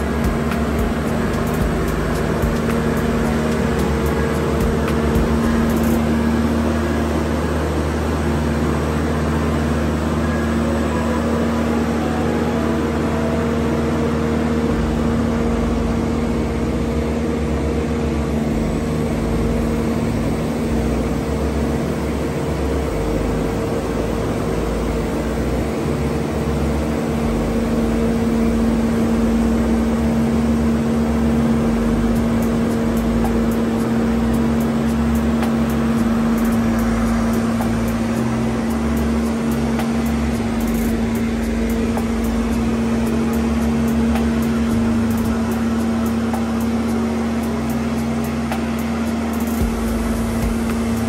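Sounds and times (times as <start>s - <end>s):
travel lift engine droning: 0.0s - 51.0s.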